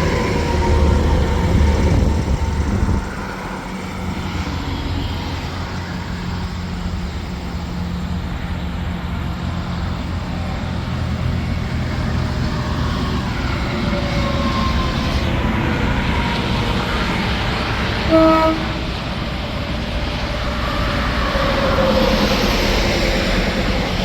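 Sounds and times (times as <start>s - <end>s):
low diesel drone: 0.0s - 24.0s
trucks passing on highway: 0.0s - 24.0s.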